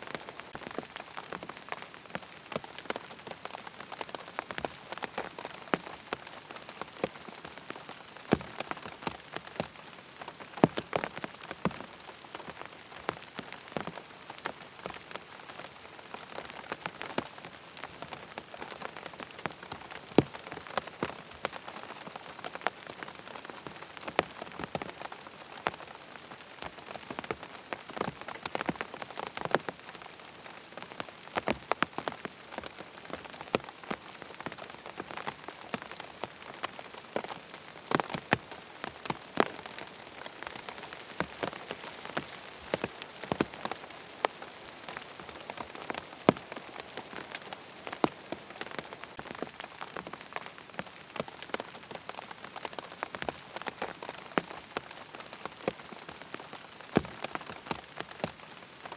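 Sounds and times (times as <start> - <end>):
steady rain falling: 0.0 - 58.9
raindrops ticking: 0.1 - 58.9.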